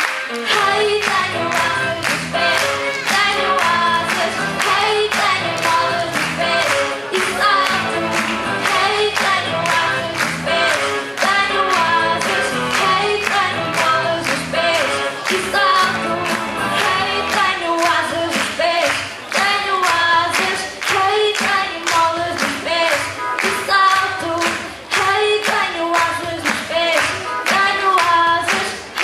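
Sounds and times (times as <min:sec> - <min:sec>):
girl singing pop song: 0:00.4 - 0:29.0.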